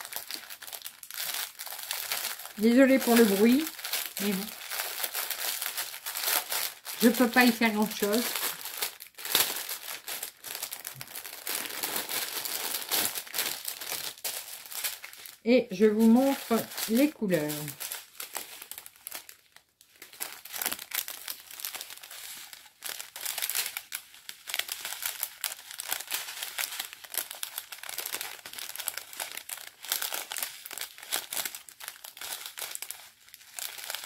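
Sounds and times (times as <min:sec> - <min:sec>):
plastic bags crinkling: 0:00.0 - 0:34.0.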